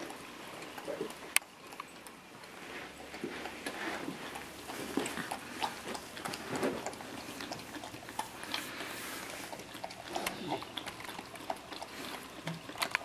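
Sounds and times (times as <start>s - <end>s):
dog licking wetly: 0.0s - 13.0s.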